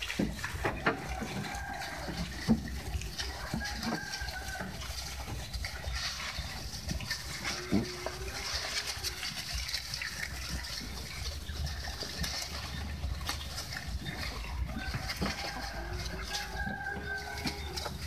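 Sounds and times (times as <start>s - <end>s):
goats crunching and chewing: 0.0s - 18.0s
rustling cut leaves: 0.0s - 18.0s.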